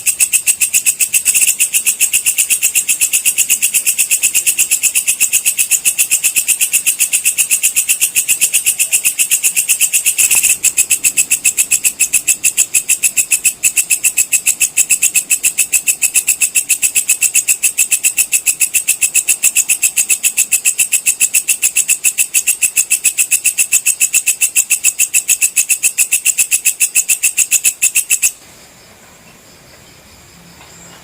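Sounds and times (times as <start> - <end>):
insect shrill pulsing call: 0.0 - 28.4.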